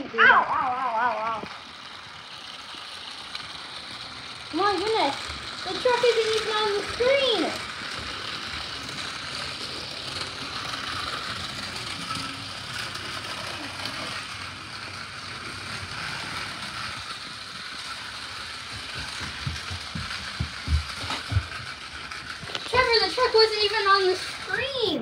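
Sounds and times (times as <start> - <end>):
plastic wheels rolling on track: 0.0 - 25.0
toy car motor whirring: 0.0 - 25.0.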